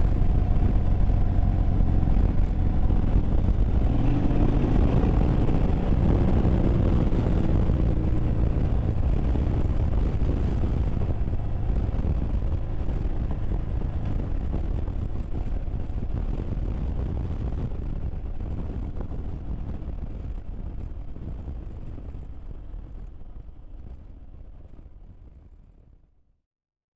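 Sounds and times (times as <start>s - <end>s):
wind and road noise rumble: 0.0s - 26.2s.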